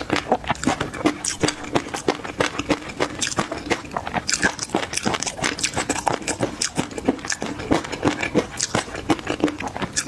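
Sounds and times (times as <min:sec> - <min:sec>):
crisp chewing crunches: 0:00.0 - 0:10.0.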